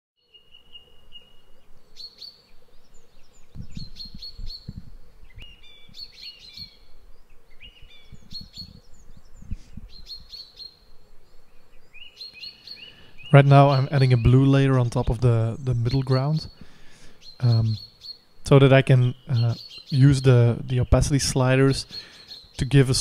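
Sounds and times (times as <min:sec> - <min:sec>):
birds chirping and calling: 0:00.3 - 0:23.0.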